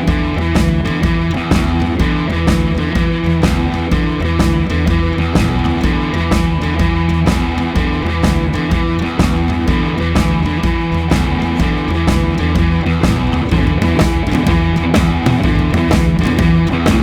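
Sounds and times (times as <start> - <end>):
music with steady drum beat: 0.0 - 17.0.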